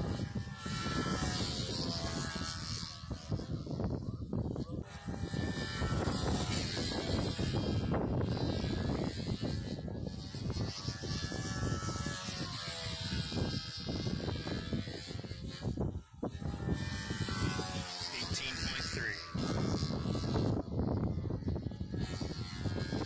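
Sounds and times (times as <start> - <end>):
model airplane engine running: 0.0 - 23.0
wind buffeting microphone: 0.0 - 23.0.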